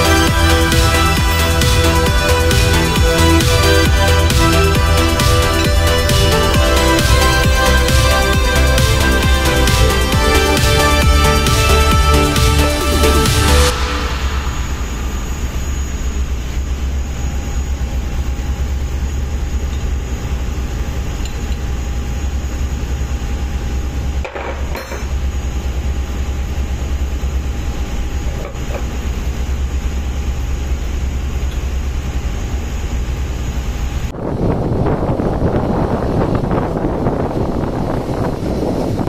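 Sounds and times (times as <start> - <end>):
faint steady whine: 0.0 - 39.0
ship engine room machinery hum: 0.0 - 39.0.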